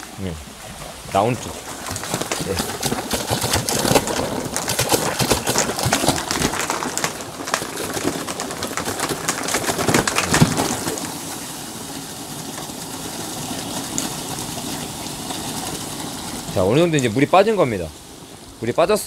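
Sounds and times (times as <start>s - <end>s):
air pulses popping: 0.0s - 19.0s
water spurting and gurgling: 0.0s - 19.0s.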